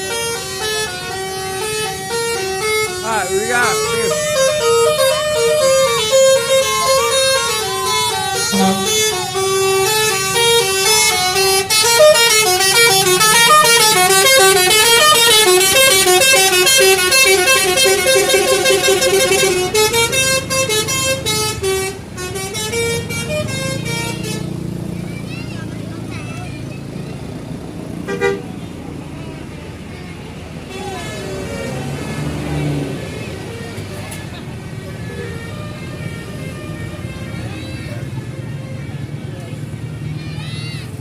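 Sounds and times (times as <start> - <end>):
multi-tone musical bus horn: 0.0 - 25.0, 27.3 - 41.0.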